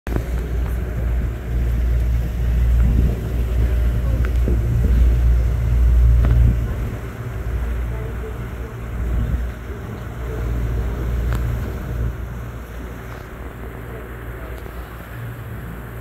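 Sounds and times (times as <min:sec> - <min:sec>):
boat motor rumble: 0:00.0 - 0:16.0
wind on microphone: 0:00.1 - 0:16.0.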